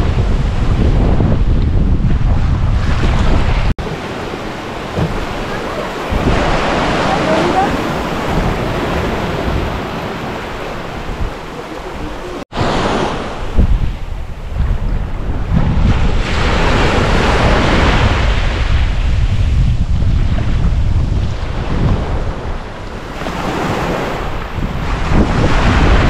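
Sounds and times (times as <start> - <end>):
wind buffeting microphone: 0.0 - 26.0
sea waves washing onto beach: 2.8 - 26.0.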